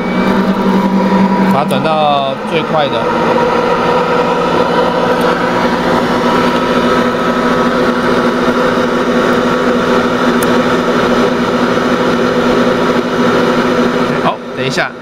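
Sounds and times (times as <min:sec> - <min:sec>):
stand mixer motor humming: 0:00.0 - 0:15.0.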